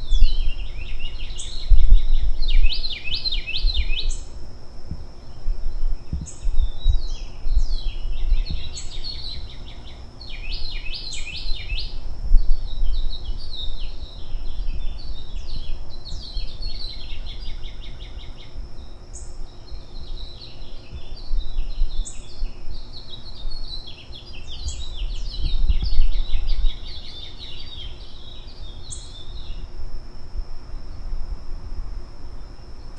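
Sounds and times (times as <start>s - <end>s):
birds chirping: 0.0s - 29.8s
thin steady high tone: 0.0s - 32.9s.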